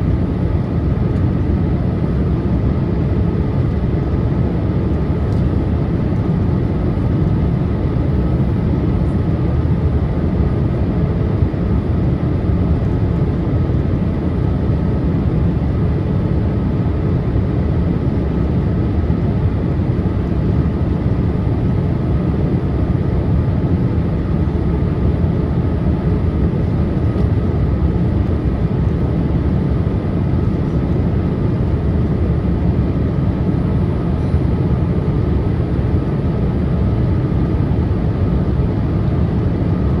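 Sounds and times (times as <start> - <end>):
jet engine and airflow rumble: 0.0 - 40.0.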